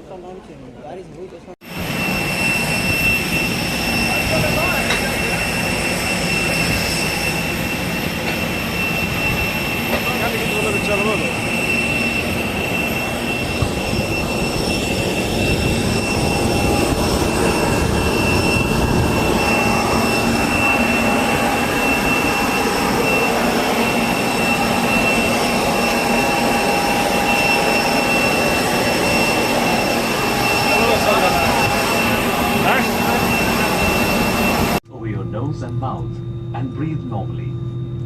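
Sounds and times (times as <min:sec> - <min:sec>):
airliner cabin engine noise: 0:01.6 - 0:38.0.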